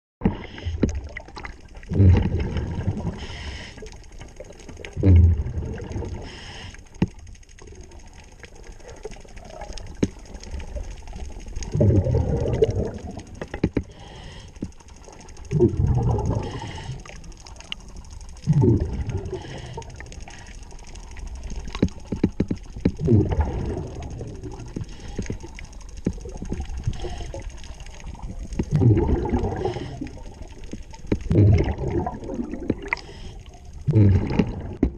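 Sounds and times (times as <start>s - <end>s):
faint clicks: 0.2s - 34.9s
diver's bubbles rushing underwater: 0.3s - 3.6s, 4.4s - 6.5s, 7.6s - 14.2s, 15.1s - 20.4s, 21.0s - 34.9s.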